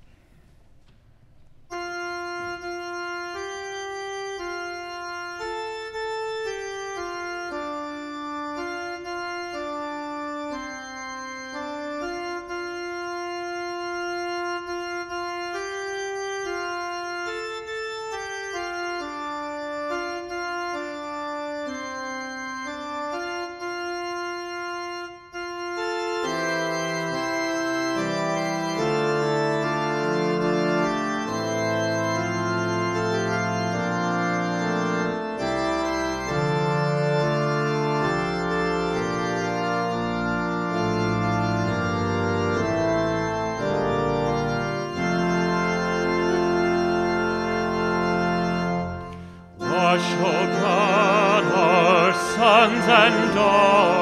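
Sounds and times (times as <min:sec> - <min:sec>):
church organ playing hymn: 0:00.0 - 0:54.0
low organ bass notes: 0:01.6 - 0:54.0.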